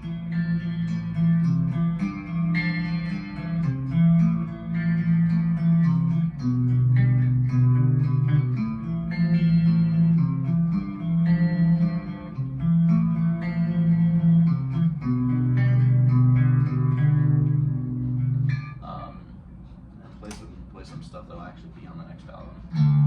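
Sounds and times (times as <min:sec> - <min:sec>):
clean electric guitar chords: 0:00.0 - 0:19.2, 0:22.7 - 0:23.0.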